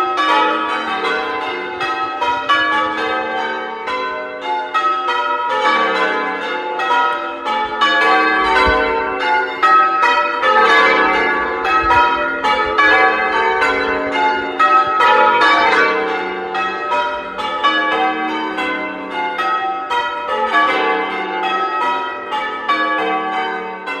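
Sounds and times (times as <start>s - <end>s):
church bells ringing changes: 0.0s - 24.0s.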